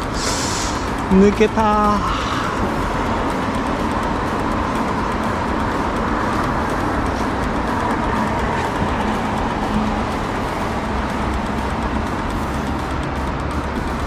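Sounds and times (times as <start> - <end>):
faint constant whine: 0.0 - 14.0
small boat motor running: 0.0 - 14.0.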